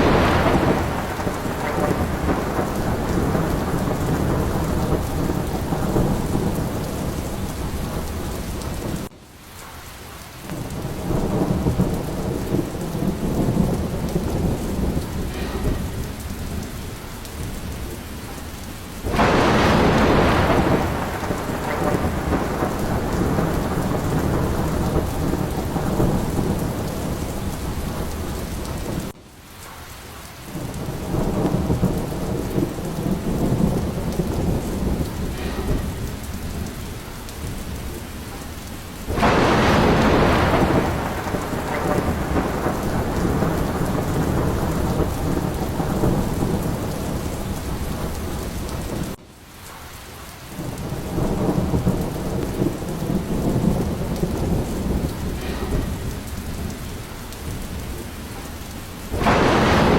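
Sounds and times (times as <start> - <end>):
low rolling thunder: 0.0 - 9.1, 10.4 - 59.9
sharp thunderclap: 0.0 - 9.1, 10.5 - 29.8, 30.5 - 49.8, 50.5 - 59.9
heavy rain: 0.0 - 59.9.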